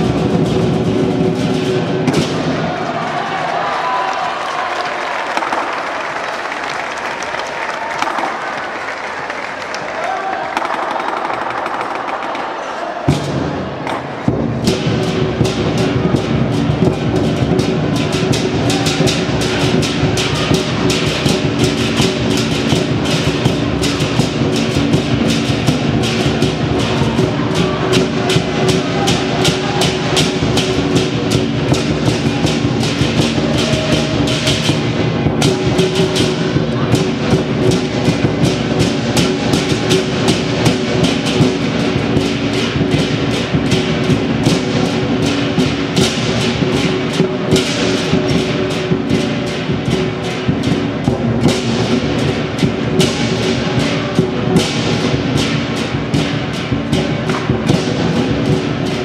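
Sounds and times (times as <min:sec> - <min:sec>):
large drum beaten fast: 0:00.0 - 0:03.5, 0:10.5 - 0:59.0.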